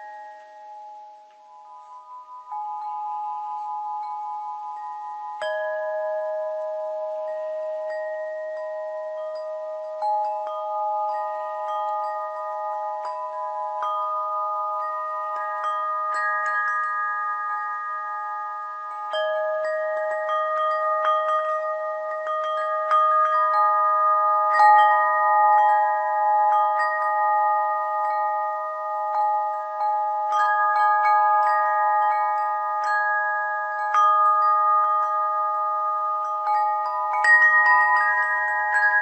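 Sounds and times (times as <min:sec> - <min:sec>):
chime bells ringing: 0:00.0 - 0:39.0.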